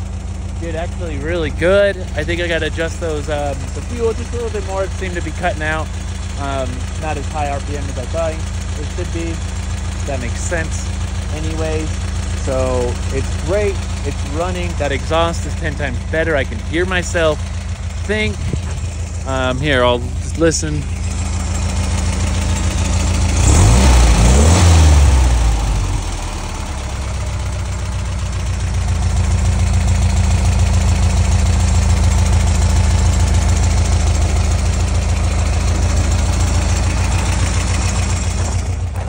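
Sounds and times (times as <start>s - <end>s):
car engine idling: 0.0s - 39.0s
engine revving: 0.6s - 27.9s, 28.5s - 39.0s.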